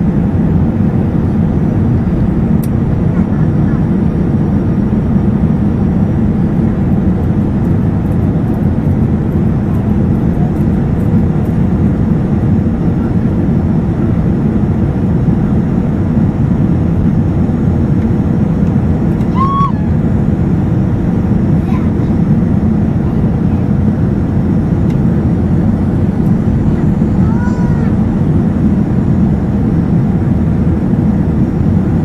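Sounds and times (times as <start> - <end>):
airflow on fuselage: 0.0 - 32.0
jet engine rumble in cabin: 0.0 - 32.0.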